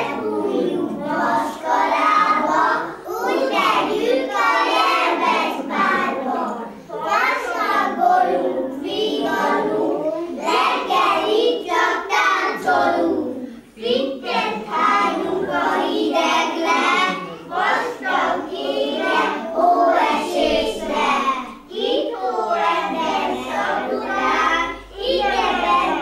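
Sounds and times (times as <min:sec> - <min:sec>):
young children singing: 0:00.0 - 0:26.0.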